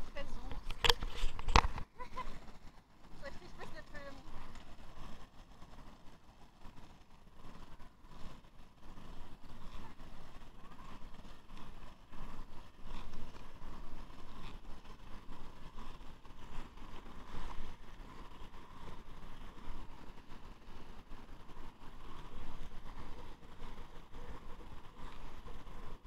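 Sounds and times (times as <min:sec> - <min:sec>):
roller-skate wheels on asphalt: 0:00.0 - 0:26.0
wind buffeting microphone: 0:00.0 - 0:26.0.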